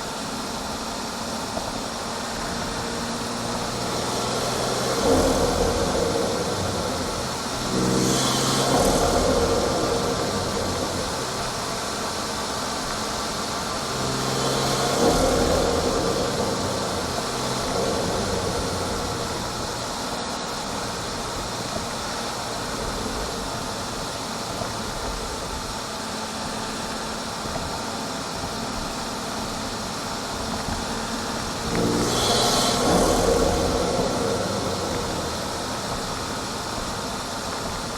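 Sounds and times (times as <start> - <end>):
car engine intake rush: 0.0 - 37.9.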